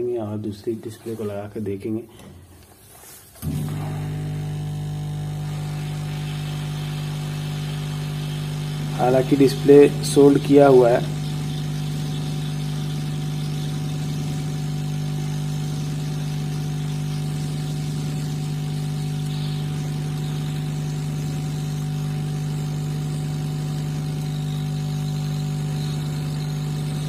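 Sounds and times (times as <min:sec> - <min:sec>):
hot air blower humming: 0:03.4 - 0:27.0.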